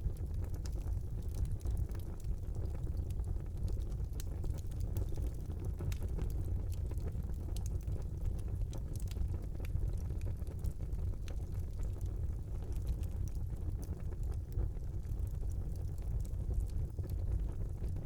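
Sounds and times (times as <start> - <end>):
fire crackles and pops: 0.0 - 18.0
low rush of flames: 0.0 - 18.0.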